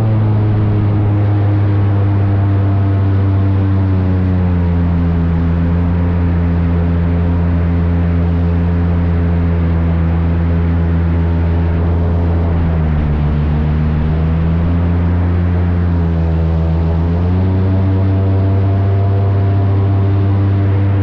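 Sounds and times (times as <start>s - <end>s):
airboat engine and propeller drone: 0.0s - 21.0s.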